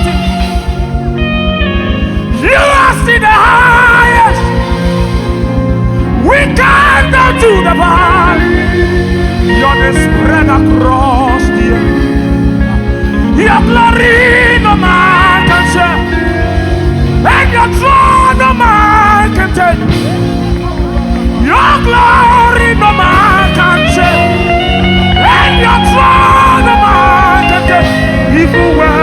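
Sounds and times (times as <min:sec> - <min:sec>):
gospel band music: 0:00.0 - 0:29.0.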